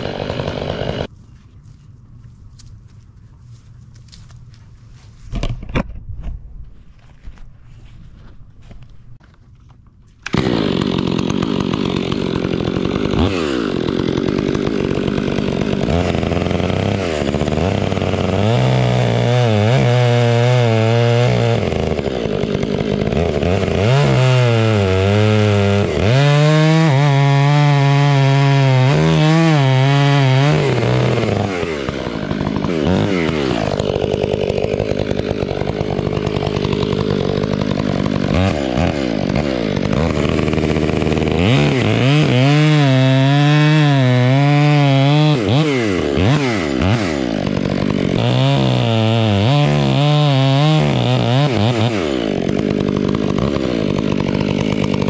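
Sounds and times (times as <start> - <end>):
chainsaw cutting log: 0.0 - 1.1, 8.7 - 55.0.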